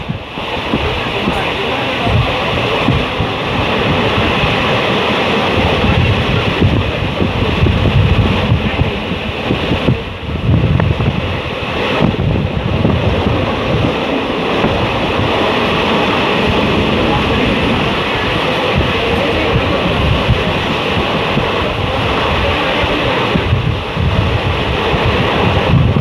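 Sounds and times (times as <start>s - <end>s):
train rumbling: 0.0s - 26.0s
wind buffeting microphone: 0.0s - 26.0s.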